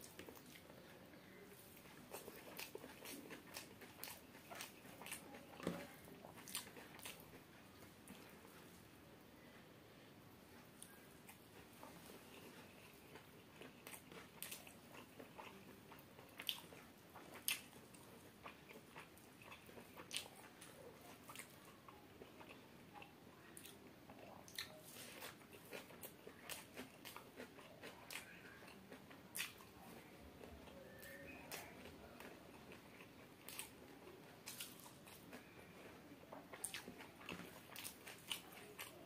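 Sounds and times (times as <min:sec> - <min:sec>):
person chewing food: 0:00.0 - 0:09.6, 0:10.5 - 0:39.0.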